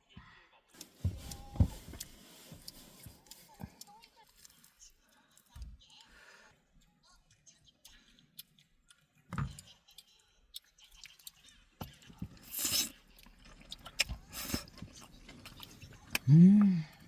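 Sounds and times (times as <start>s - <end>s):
chewing and crunching food: 0.8s - 17.0s.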